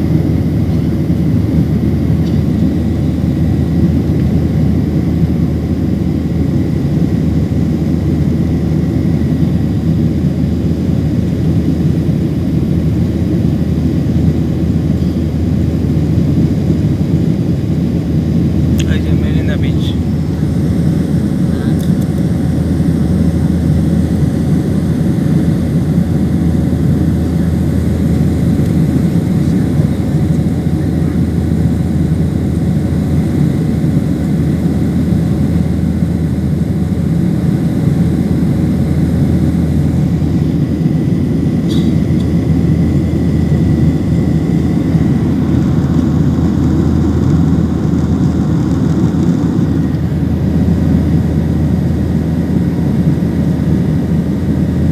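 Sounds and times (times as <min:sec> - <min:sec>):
airliner engines roaring: 0:00.0 - 0:54.9.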